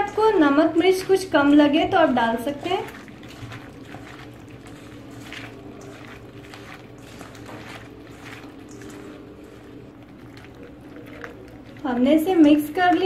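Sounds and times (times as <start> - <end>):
hand mixing wet food in bowl: 0.0 - 13.0
steady low hum: 0.0 - 13.0.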